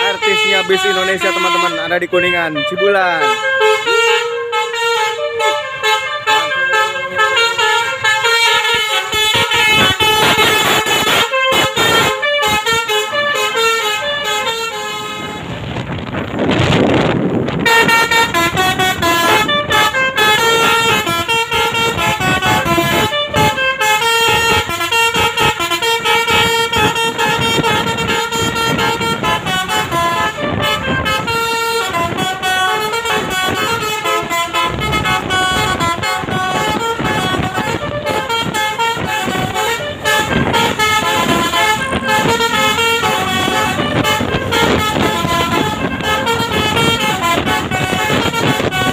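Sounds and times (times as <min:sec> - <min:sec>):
musical air horn melody: 0:00.0 - 0:16.6, 0:17.5 - 0:48.9.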